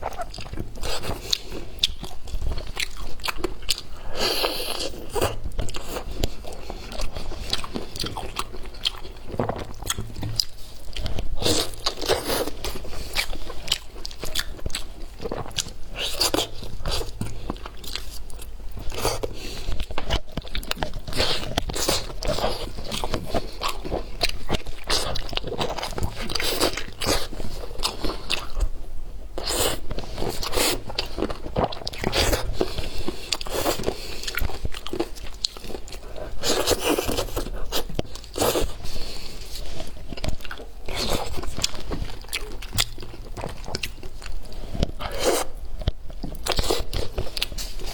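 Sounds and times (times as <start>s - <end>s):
person chewing and crunching: 0.0s - 28.8s, 29.4s - 47.9s.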